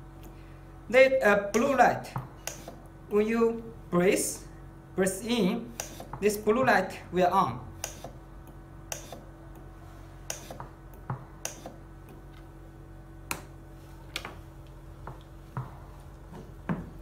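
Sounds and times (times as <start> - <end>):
oxygen concentrator humming: 0.0 - 17.0.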